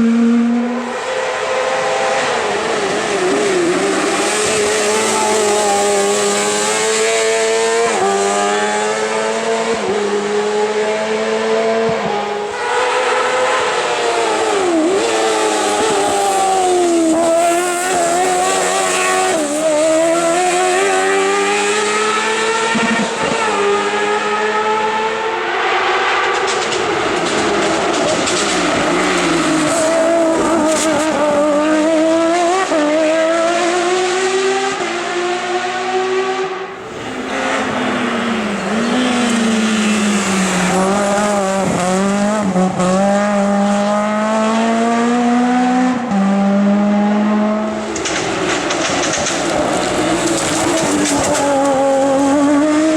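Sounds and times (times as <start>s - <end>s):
race car engines accelerating: 0.0s - 52.9s.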